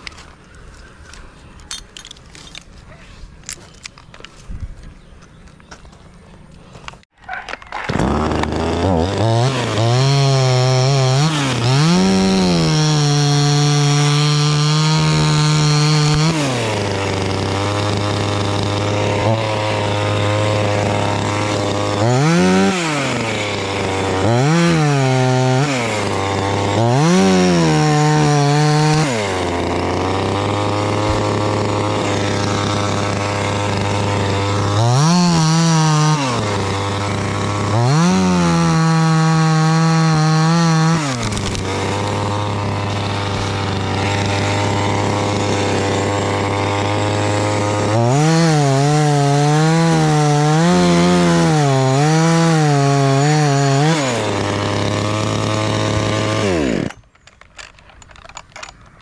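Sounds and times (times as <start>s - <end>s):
chainsaw revving: 7.8s - 58.7s.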